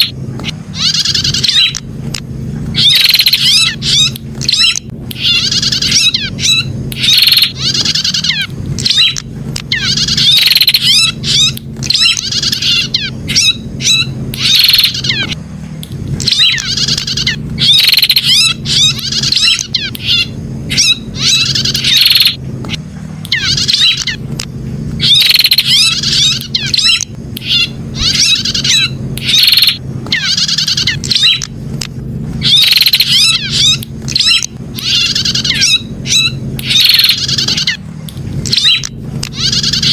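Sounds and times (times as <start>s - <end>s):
bird chirping loudly: 0.0s - 1.8s, 2.7s - 15.4s, 16.2s - 22.4s, 23.3s - 24.2s, 25.0s - 31.5s, 32.4s - 37.8s, 38.4s - 39.9s
steady low hum: 0.0s - 39.9s.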